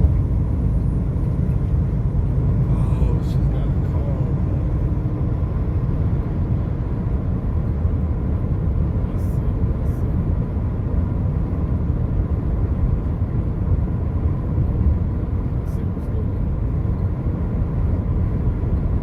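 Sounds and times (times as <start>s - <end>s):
vehicle driving on highway: 0.0s - 19.0s.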